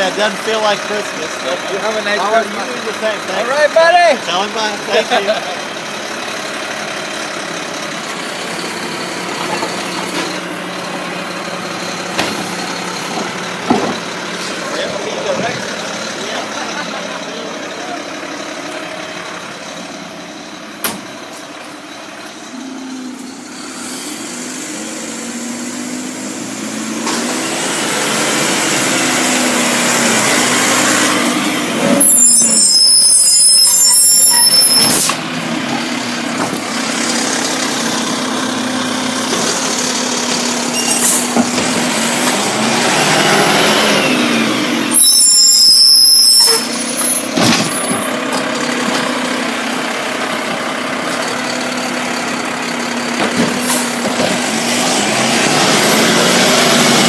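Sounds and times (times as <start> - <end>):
garbage truck engine pulling away: 0.0 - 57.0.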